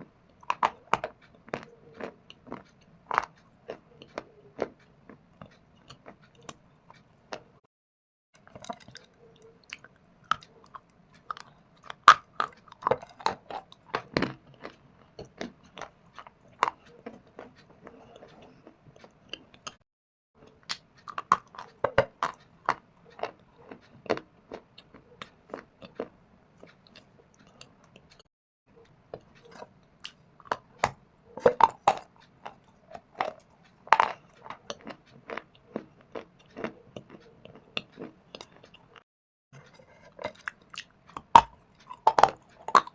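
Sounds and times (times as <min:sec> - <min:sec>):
person chewing stone crunches: 0:00.3 - 0:07.6, 0:08.4 - 0:19.8, 0:20.4 - 0:28.3, 0:29.1 - 0:39.0, 0:39.6 - 0:42.9.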